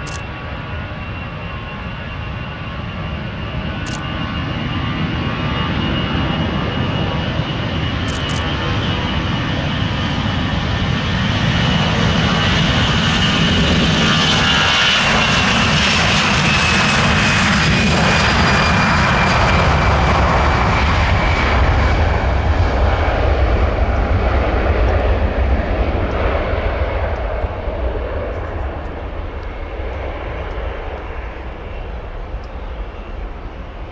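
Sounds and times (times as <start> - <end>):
jet engines at takeoff thrust: 0.0 - 33.9.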